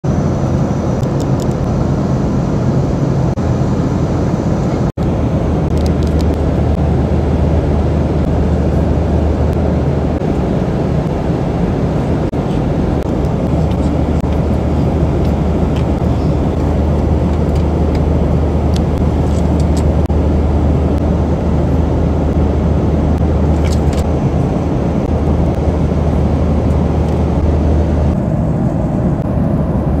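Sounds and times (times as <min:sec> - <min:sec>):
airliner cabin engine drone: 0:00.0 - 0:30.0
low hum: 0:00.0 - 0:30.0
rushing air: 0:00.0 - 0:30.0.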